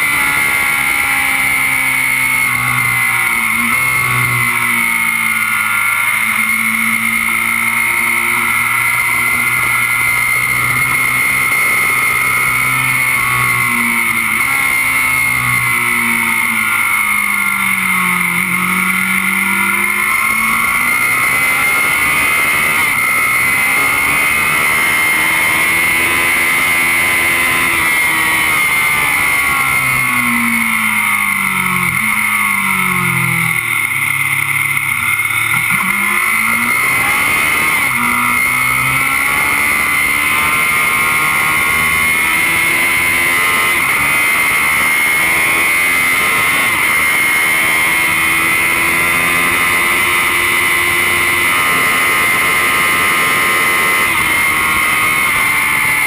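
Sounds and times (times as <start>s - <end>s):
motorcycle engine revving hard: 0.0s - 56.0s.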